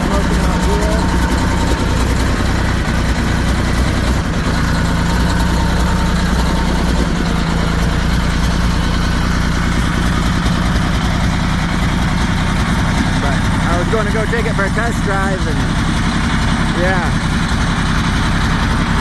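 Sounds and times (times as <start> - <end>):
diesel engine idling rough: 0.0 - 19.0.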